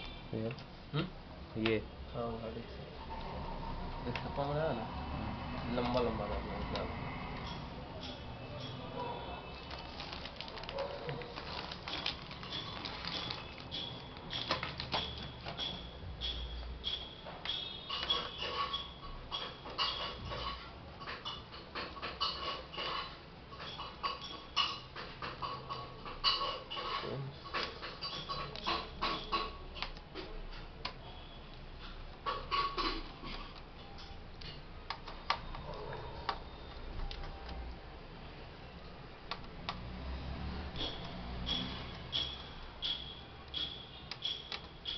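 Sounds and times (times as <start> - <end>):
laptop parts clicking: 5.5 - 8.8, 9.7 - 22.6, 23.6 - 37.8, 39.1 - 44.9.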